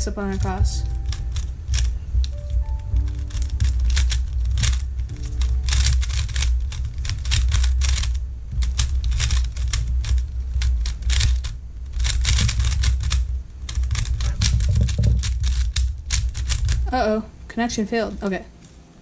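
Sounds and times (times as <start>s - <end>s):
puzzle cube plastic clicking turns: 0.3s - 16.9s.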